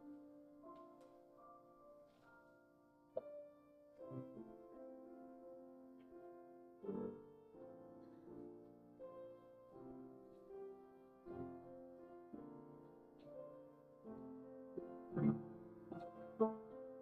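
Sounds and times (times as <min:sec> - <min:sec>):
soft slow piano music: 0:00.0 - 0:17.0.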